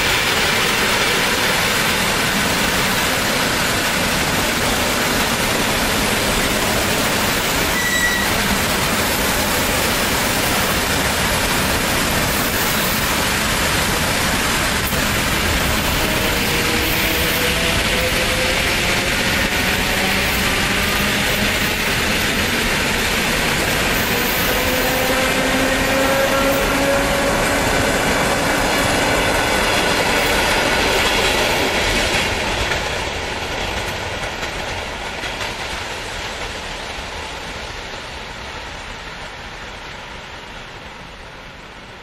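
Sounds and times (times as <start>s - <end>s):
train wheels running: 0.0s - 42.0s.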